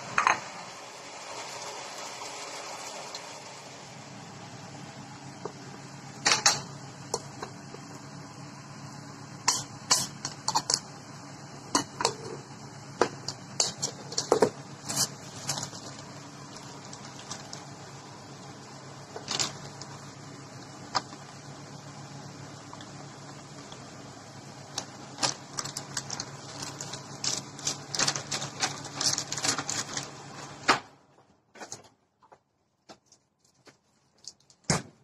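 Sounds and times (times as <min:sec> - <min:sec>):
low steady hum: 0:00.0 - 0:31.2.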